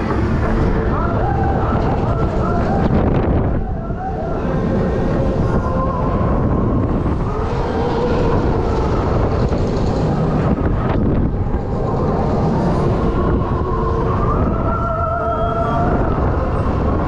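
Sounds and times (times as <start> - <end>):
steady hum of tones: 0.0 - 17.0
wind rushing over microphone: 0.0 - 17.0.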